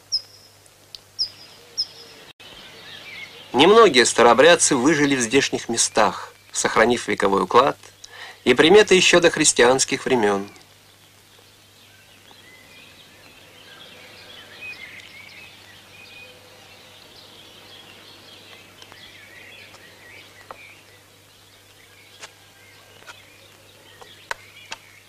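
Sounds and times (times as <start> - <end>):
birds chirping faintly: 0.0 - 25.0.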